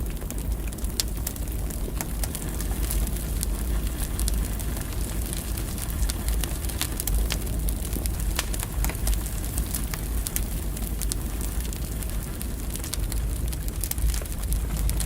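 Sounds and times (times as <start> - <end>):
fire low rumble: 0.0 - 15.0
firewood crackling and popping: 0.0 - 15.0.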